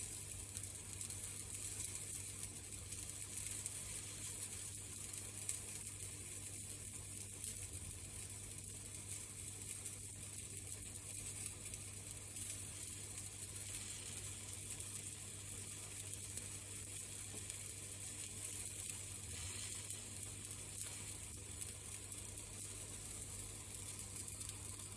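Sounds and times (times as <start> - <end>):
food sizzling in a pan: 0.0 - 24.9.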